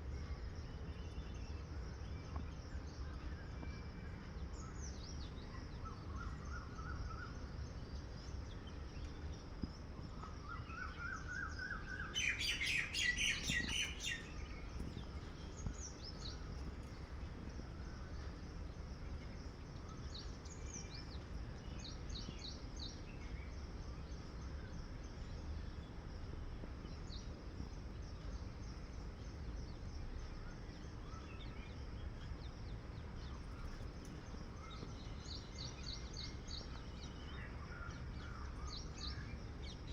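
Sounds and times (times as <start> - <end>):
low background rumble: 0.0 - 39.9
small birds chirping: 0.0 - 39.9.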